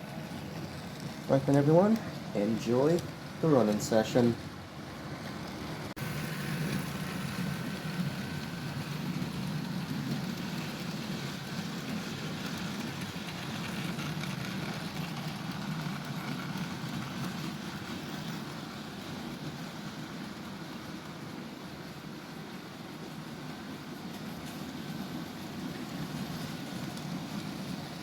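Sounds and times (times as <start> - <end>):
model trains rumbling on track: 0.0 - 28.0.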